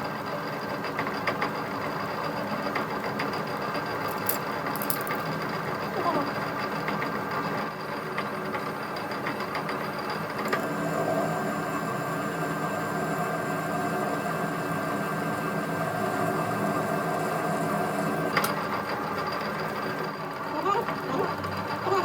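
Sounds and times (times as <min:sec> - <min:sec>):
workshop machine humming and whining: 0:00.0 - 0:22.0.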